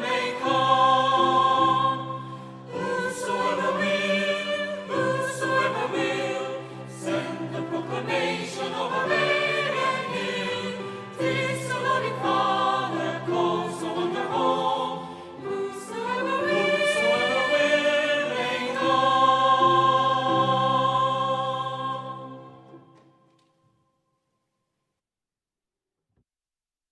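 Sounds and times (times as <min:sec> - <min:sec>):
choir singing a hymn: 0:00.0 - 0:23.1.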